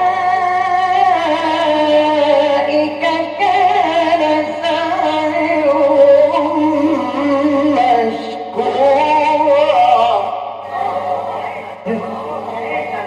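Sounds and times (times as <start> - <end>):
man chanting recitation: 0.0 - 13.0.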